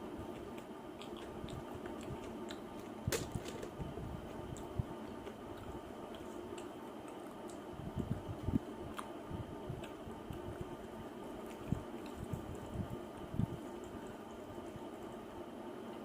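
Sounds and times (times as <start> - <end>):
person chewing food: 0.2 - 3.1, 4.2 - 14.2.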